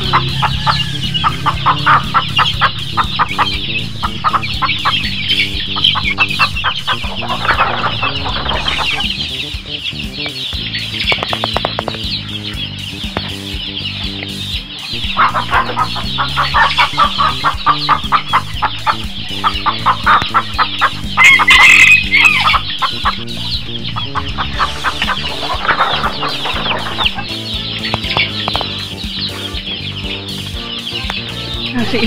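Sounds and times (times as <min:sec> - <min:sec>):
background music: 0:00.0 - 0:32.0
chickens peeping and clucking: 0:00.0 - 0:32.0.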